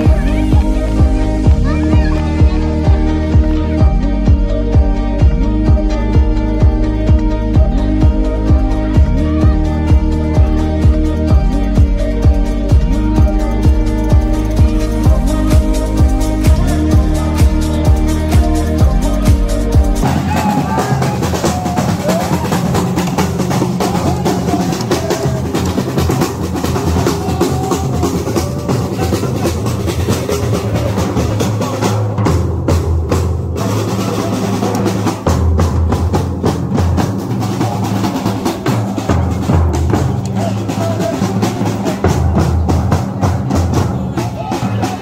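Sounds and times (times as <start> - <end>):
marching drum band: 0.0 - 45.0.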